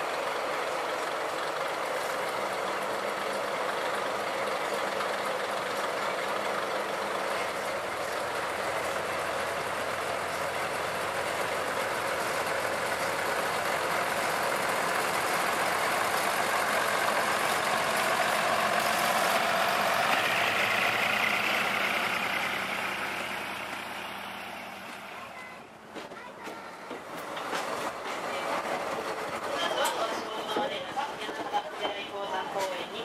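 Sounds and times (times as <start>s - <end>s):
diesel railcars passing: 0.0s - 33.0s.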